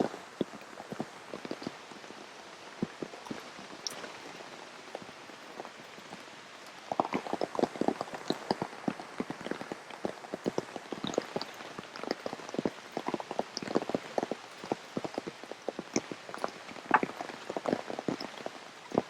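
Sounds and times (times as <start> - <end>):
heavy rain falling: 0.0 - 19.0
large raindrops striking: 0.0 - 19.0.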